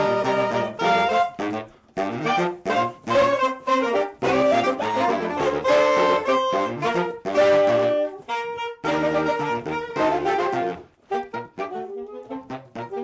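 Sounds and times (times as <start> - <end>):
saxophone quartet playing: 0.0 - 13.0.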